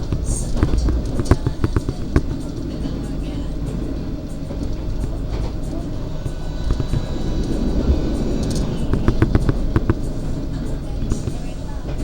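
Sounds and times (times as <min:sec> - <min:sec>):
train rumbling: 0:00.0 - 0:12.0
wheels clacking on track: 0:00.0 - 0:12.0.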